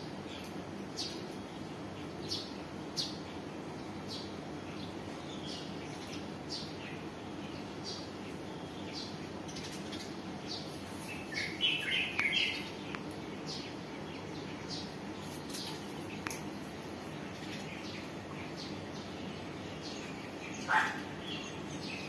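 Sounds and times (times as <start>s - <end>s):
low background hiss: 0.0s - 22.0s
small birds chirping: 0.0s - 22.0s.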